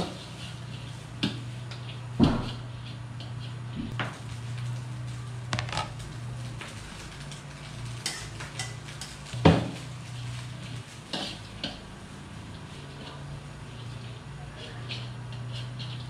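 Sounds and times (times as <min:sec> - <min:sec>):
metal utensils scraping a wok: 0:00.0 - 0:16.0
vegetables sizzling in a wok: 0:00.0 - 0:16.0.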